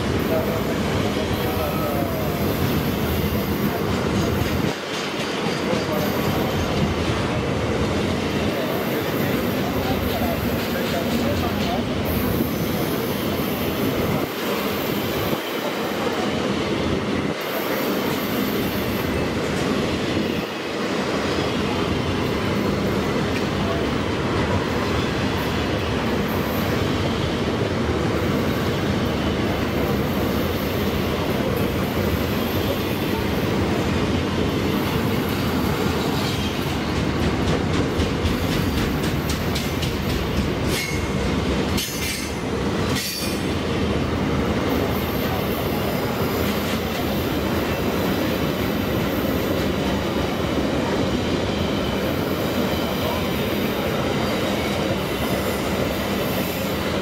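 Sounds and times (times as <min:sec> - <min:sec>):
train wagons rumbling past: 0:00.0 - 0:57.0.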